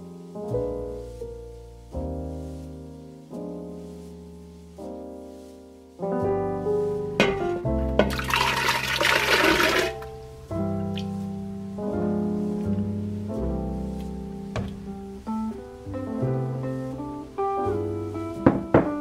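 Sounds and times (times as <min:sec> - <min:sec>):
instrumental music with piano: 0:00.0 - 0:19.0.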